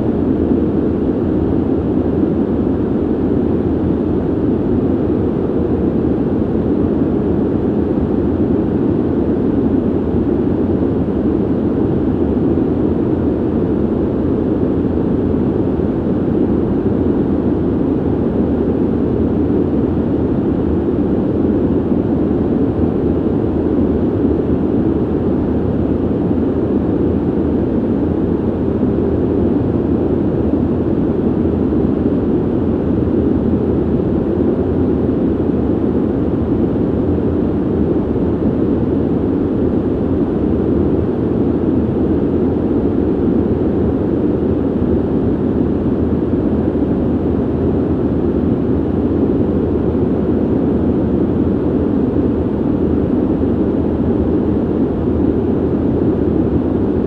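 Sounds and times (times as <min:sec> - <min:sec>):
ventilation air rushing: 0:00.0 - 0:57.0.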